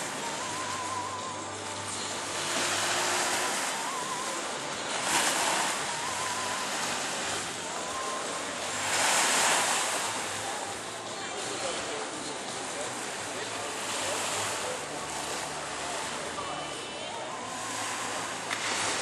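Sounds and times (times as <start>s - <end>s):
faint wavering tone: 0.0s - 19.0s
sea waves washing onto shore: 0.0s - 19.0s.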